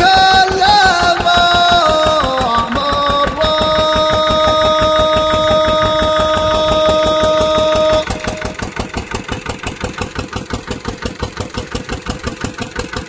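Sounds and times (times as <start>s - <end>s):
engine idling with thudding beat: 0.0s - 13.0s.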